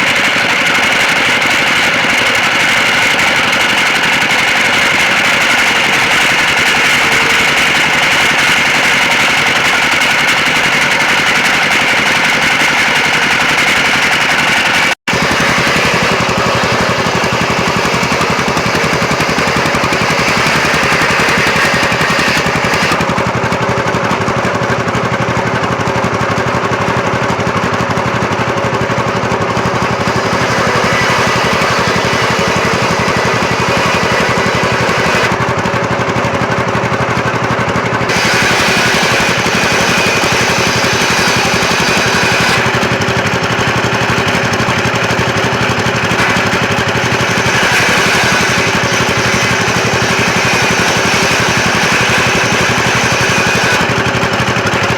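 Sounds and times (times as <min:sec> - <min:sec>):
sawmill machinery rattling: 0:00.0 - 0:54.9.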